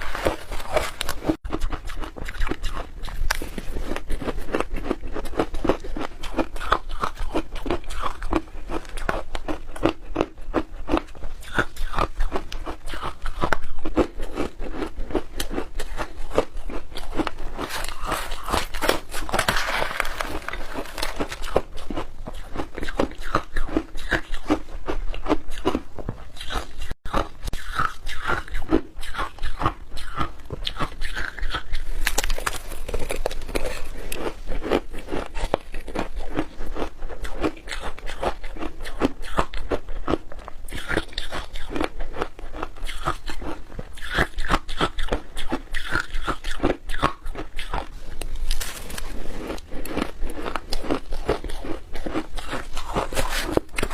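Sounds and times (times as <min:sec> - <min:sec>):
crunching and chewing ice: 0:00.0 - 0:53.9.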